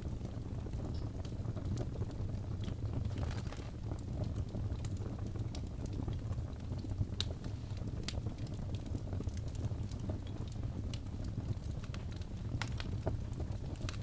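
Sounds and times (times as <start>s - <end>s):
fire crackles and pops: 0.0s - 14.0s
low rumble of flames: 0.0s - 14.0s.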